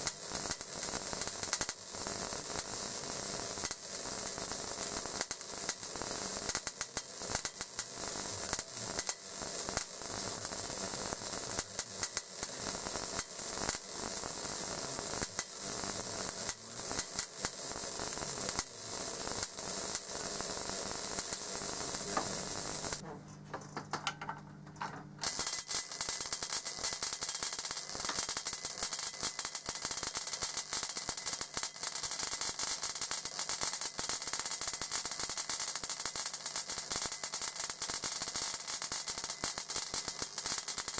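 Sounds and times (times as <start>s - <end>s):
high-voltage sparks crackling: 0.0s - 23.0s, 25.2s - 40.9s.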